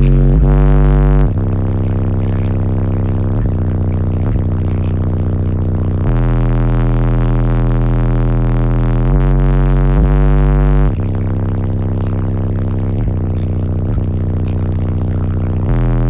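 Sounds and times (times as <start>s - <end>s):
loud deep bass notes: 0.0s - 16.0s.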